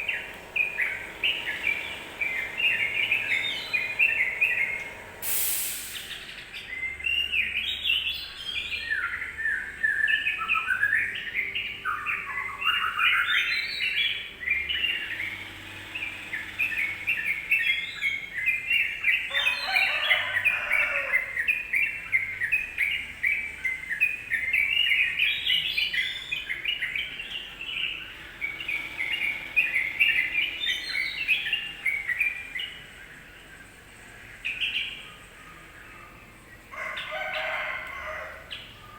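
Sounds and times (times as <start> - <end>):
bulbul chattering song: 0.0 - 37.7.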